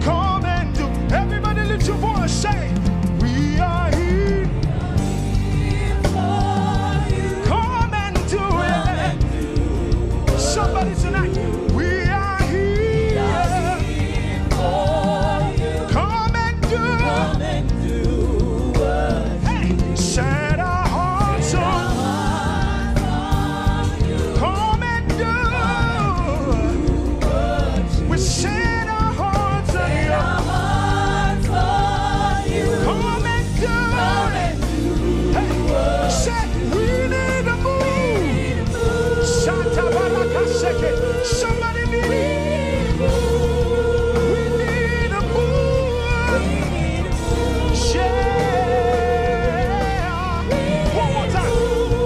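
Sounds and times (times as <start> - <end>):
gospel band playing: 0.0 - 52.0.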